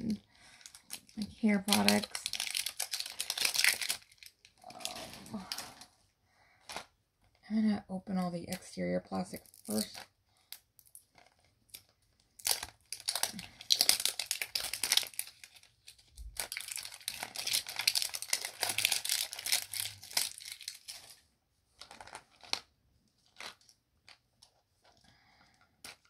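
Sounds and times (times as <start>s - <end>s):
plastic shrink-wrap crinkling and tearing: 0.0s - 6.0s, 8.5s - 26.0s.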